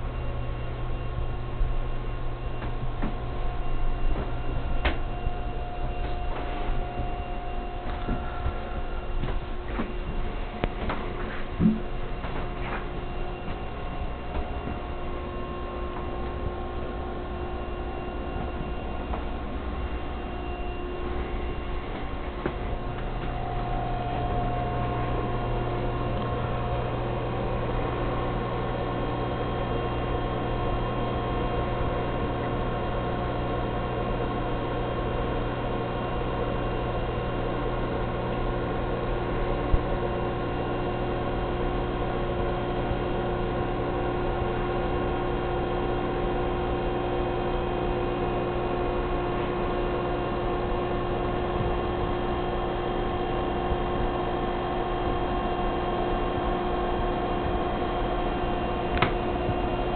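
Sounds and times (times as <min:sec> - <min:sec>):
electrical hum with tones: 0:00.0 - 0:59.9.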